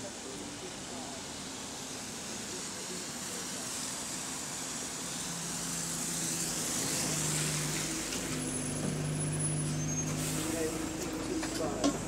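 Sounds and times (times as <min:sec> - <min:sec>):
bus diesel engine: 0:00.0 - 0:12.0
tyres hissing on wet road: 0:00.0 - 0:12.0.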